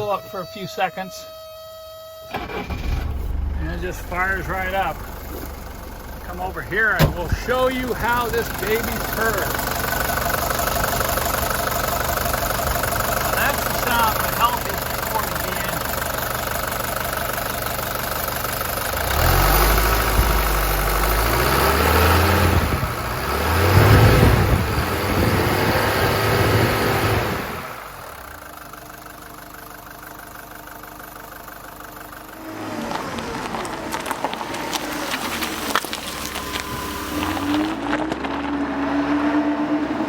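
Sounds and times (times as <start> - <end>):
diesel engine revving: 2.3 - 40.0.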